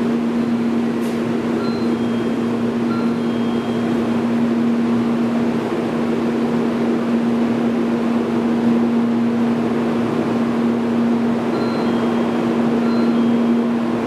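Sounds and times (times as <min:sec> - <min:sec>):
train mechanical hum: 0:00.0 - 0:14.0.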